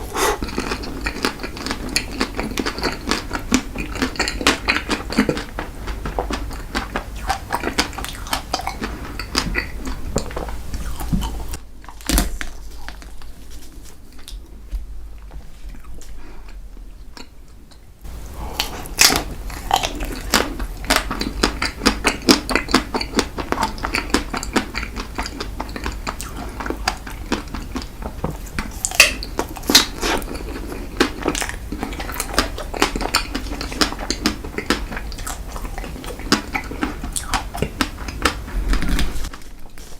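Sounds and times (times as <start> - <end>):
chewing mouth sounds: 0.0 - 12.0, 15.2 - 39.4.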